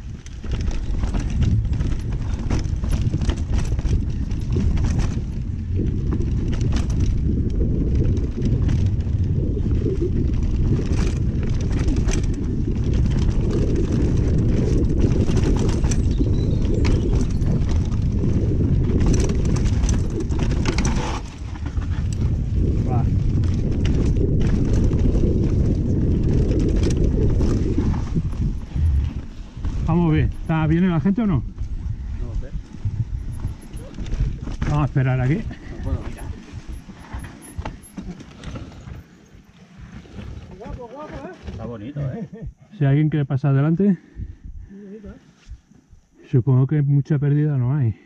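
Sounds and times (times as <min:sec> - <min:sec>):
bike clattering over rough ground: 0:00.0 - 0:42.1
wind buffeting microphone: 0:00.0 - 0:43.1, 0:44.0 - 0:46.2
bike tyres rumbling on trail: 0:00.0 - 0:46.2.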